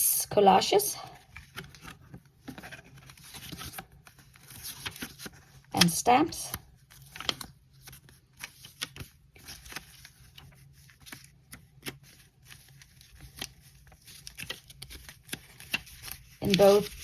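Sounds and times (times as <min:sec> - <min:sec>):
paper pages turning: 0:01.2 - 0:17.0.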